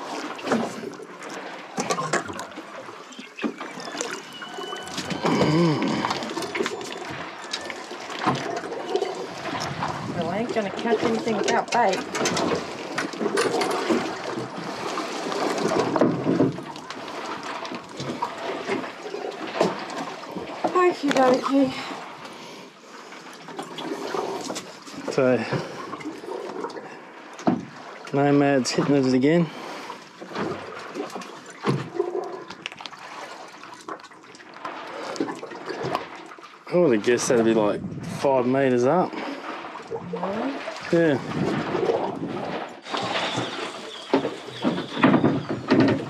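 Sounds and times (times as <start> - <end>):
water slapping against boat hull: 0.0 - 22.4, 23.0 - 46.0.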